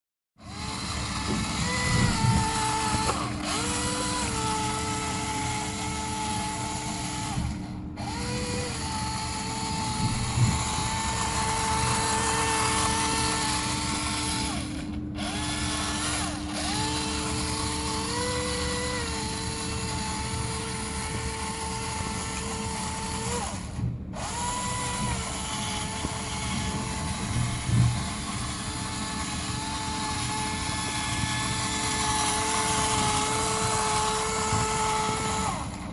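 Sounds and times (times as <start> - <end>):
toy motor and gears whirring: 0.4 - 35.9.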